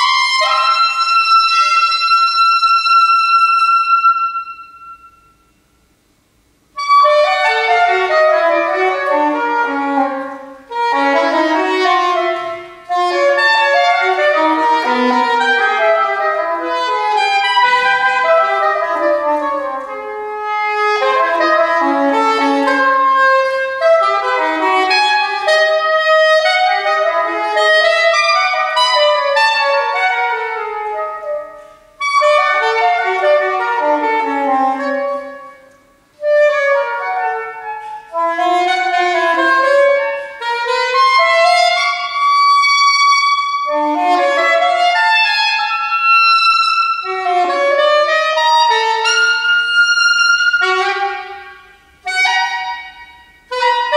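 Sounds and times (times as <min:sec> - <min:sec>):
solo saxophone melody: 0:00.0 - 0:05.6, 0:06.7 - 0:53.9.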